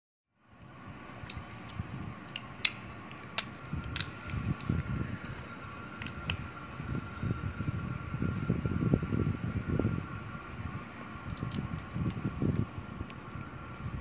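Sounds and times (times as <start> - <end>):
faint steady hum: 0.3 - 14.0.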